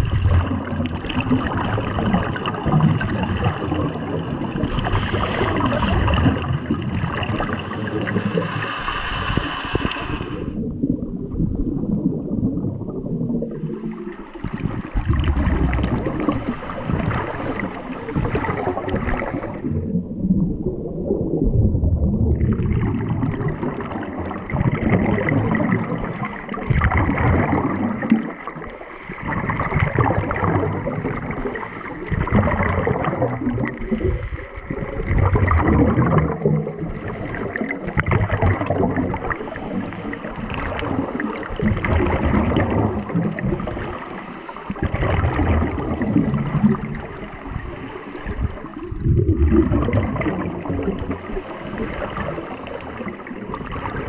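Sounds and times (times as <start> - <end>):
underwater bubbles gurgling: 0.0 - 54.0.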